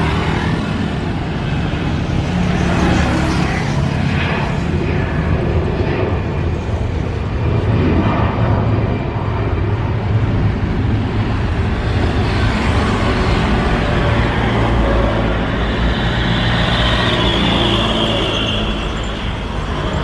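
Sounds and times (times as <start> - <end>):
jet engine rumble and whine: 0.0 - 20.0.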